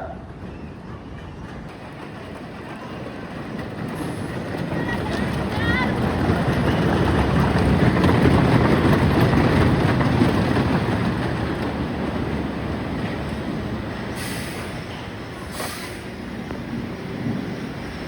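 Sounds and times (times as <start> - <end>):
roller coaster rumbling and clattering: 0.0 - 15.5.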